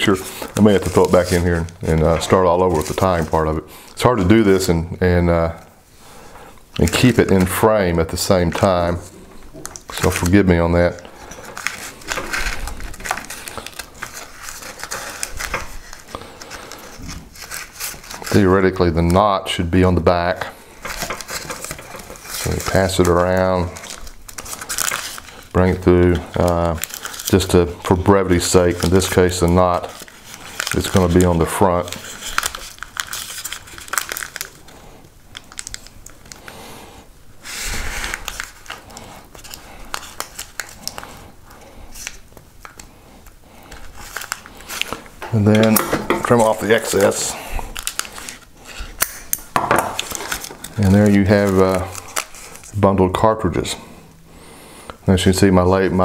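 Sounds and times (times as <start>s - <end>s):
paper crinkling: 0.0s - 4.7s, 6.0s - 54.5s.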